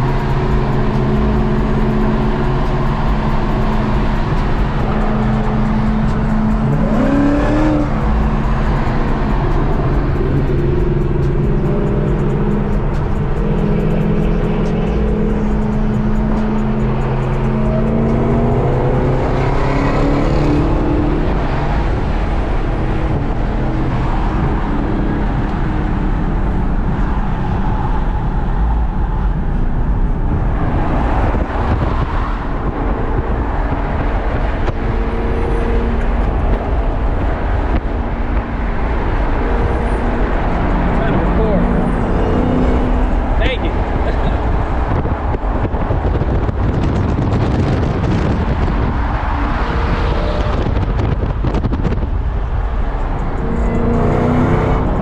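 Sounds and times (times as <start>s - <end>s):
car engines running: 0.0s - 55.0s.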